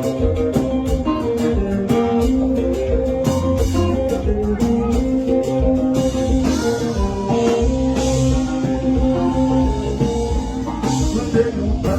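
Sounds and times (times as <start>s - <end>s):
drum kit: 0.0s - 11.9s
electric guitar solo: 0.0s - 11.9s.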